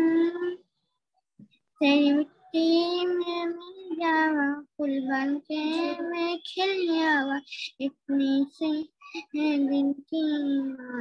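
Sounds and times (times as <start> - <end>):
boy singing unaccompanied: 0.0 - 0.6, 1.8 - 11.0.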